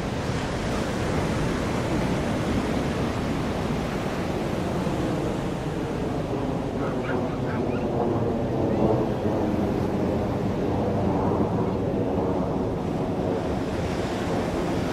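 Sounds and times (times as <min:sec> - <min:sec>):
jet engine roar: 0:00.0 - 0:14.9.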